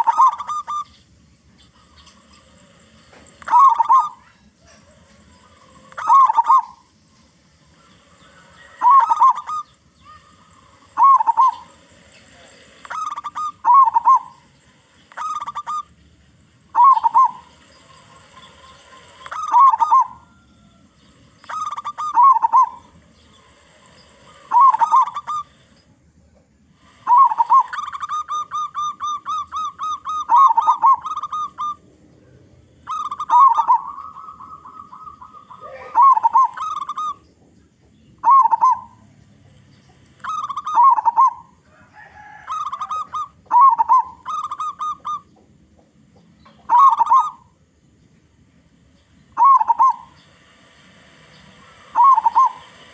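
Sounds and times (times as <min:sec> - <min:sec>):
dove cooing: 0:00.0 - 0:48.0, 0:49.2 - 0:52.9.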